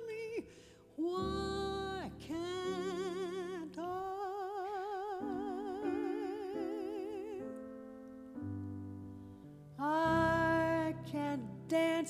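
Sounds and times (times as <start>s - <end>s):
woman singing with vibrato: 0.0s - 7.5s, 9.8s - 12.0s
piano chords: 0.0s - 12.0s.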